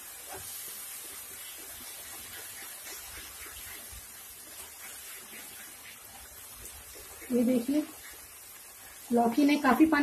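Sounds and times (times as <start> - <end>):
food sizzling in pan: 0.0 - 10.0
wooden spatula stirring and scraping: 0.0 - 10.0.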